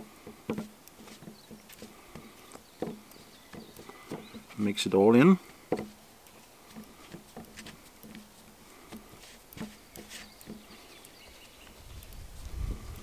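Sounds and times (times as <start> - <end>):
hands kneading dough in wooden bowl: 0.0 - 12.6.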